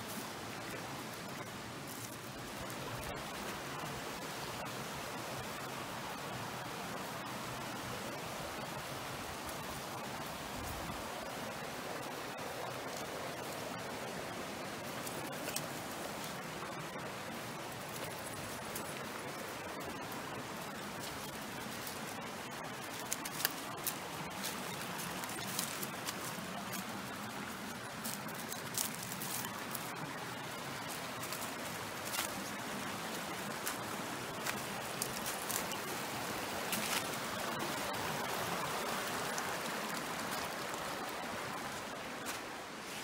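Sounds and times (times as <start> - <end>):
stream running: 0.0 - 43.0.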